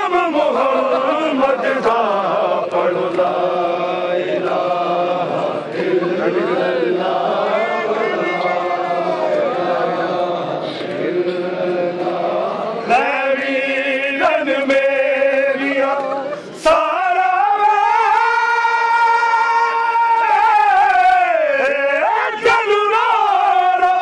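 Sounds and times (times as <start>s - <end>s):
men chanting: 0.0s - 24.0s.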